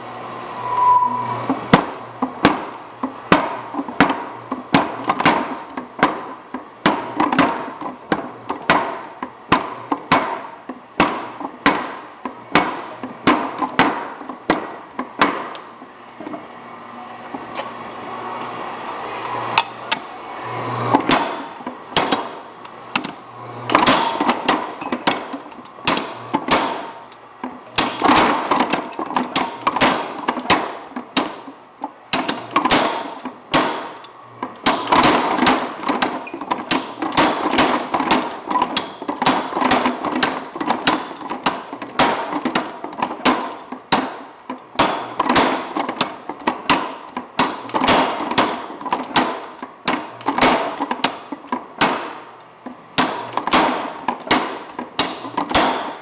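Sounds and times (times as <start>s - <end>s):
power hammer striking hot steel: 0.7s - 15.7s, 20.8s - 52.4s, 53.0s - 56.0s.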